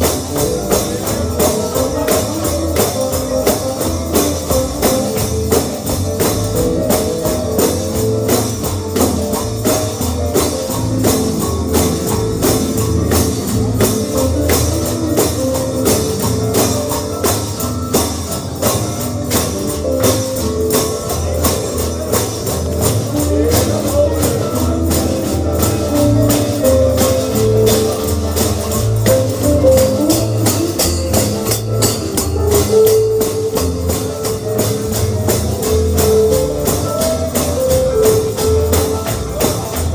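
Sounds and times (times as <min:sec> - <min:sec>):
bluegrass gospel music: 0:00.0 - 0:39.9
tambourine beat: 0:00.0 - 0:39.9.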